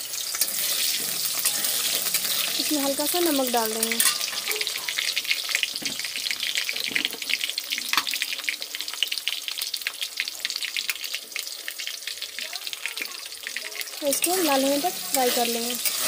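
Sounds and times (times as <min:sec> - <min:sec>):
potatoes frying in hot oil: 0:00.0 - 0:16.0.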